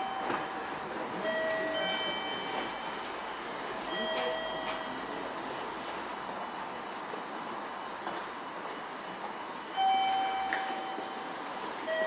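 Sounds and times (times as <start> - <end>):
continuous hiss: 0.0 - 12.0.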